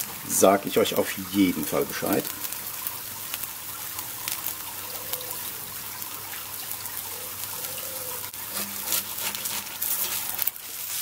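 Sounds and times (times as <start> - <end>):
egg sizzling on griddle: 0.0 - 11.0.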